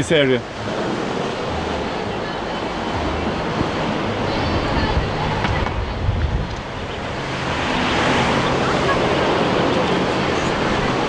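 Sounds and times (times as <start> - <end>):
rough surf rushing: 0.0 - 11.0
wind buffeting microphone: 0.0 - 11.0.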